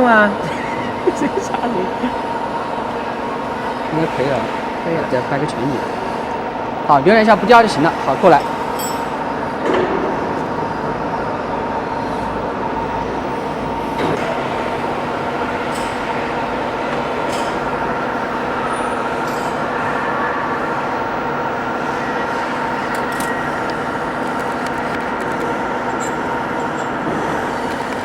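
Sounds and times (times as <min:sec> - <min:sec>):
machinery whine and hum: 0:00.0 - 0:28.0.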